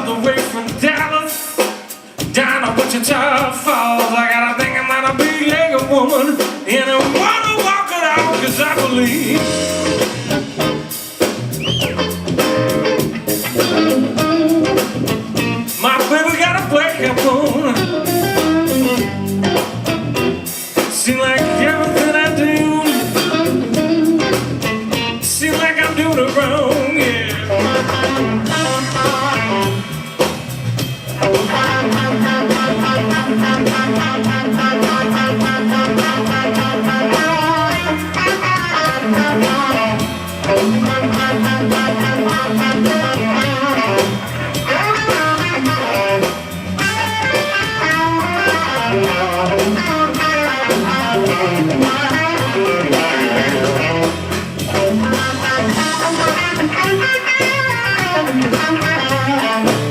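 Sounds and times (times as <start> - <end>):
bass guitar: 0.0 - 59.9
drum kit: 0.0 - 59.9
electric guitar lead: 4.5 - 59.9.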